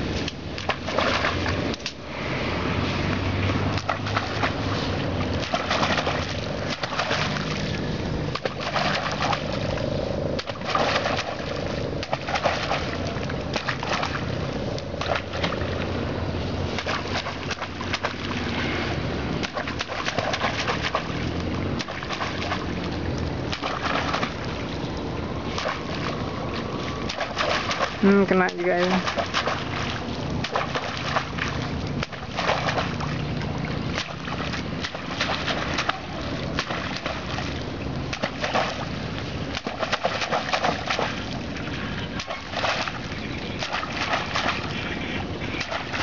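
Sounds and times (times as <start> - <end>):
steady rushing noise: 0.0 - 46.0.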